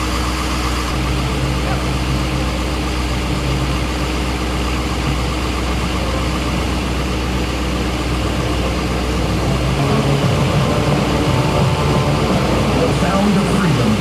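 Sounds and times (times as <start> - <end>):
jet engine hum: 0.0 - 14.0.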